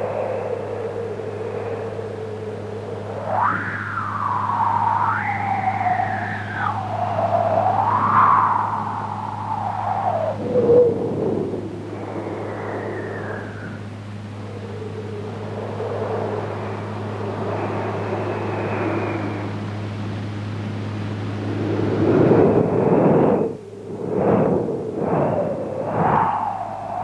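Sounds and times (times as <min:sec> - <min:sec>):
low hum: 0:00.0 - 0:27.0
strong wind howling: 0:00.0 - 0:27.0.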